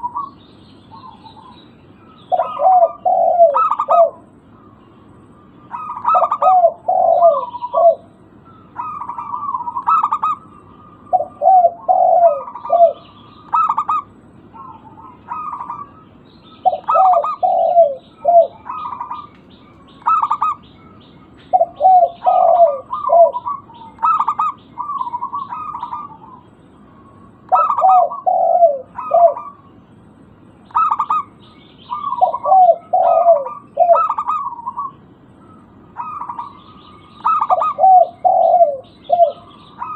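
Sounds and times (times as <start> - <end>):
doves cooing: 0.0 - 29.8, 30.7 - 39.9
small bird chirping: 0.0 - 39.9.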